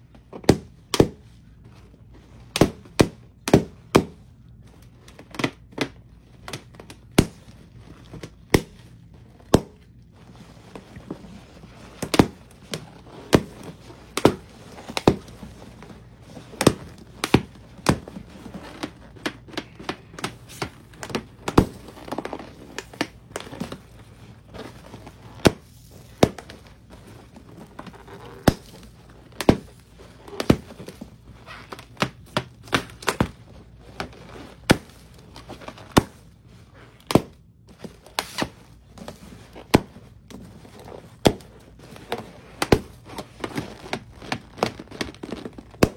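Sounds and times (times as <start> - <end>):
low steady background noise: 0.0 - 45.9.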